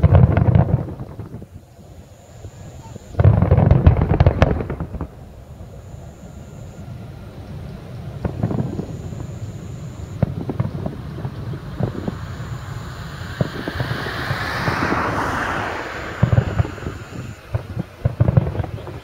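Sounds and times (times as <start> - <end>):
distant fireworks bangs: 0.0 - 1.5, 2.5 - 19.0
continuous rumble: 0.0 - 19.0
rushing crackling noise: 0.0 - 19.0.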